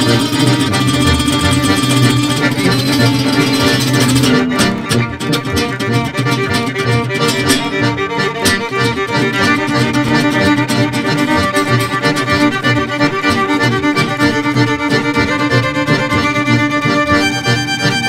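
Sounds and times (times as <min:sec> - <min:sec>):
fiddle: 0:00.0 - 0:18.0
guitar: 0:00.0 - 0:18.0.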